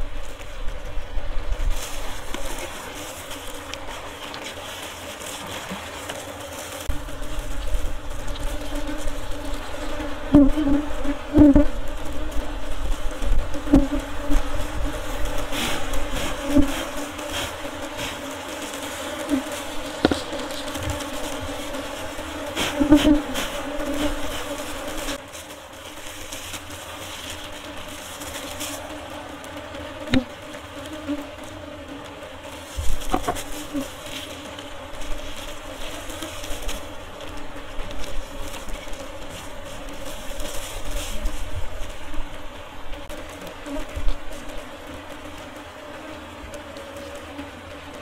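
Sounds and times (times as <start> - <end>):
bees buzzing: 0.0 - 48.0.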